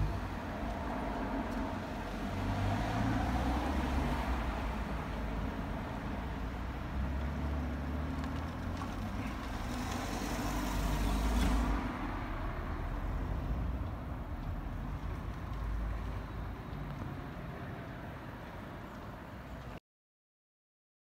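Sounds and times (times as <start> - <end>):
vehicle passing: 0.0 - 19.0
low traffic rumble: 0.0 - 19.8.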